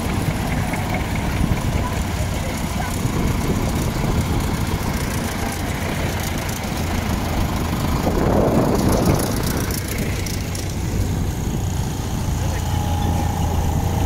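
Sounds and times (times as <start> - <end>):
tractor diesel engines passing: 0.0 - 14.0.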